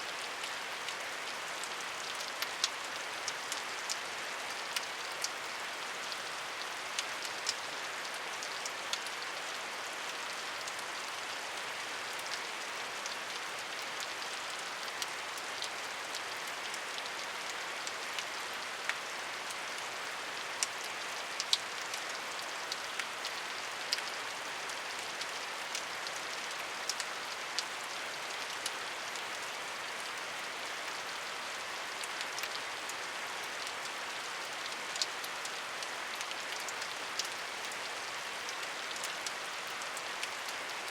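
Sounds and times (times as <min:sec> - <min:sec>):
raindrops ticking on a surface: 0:00.1 - 0:40.9.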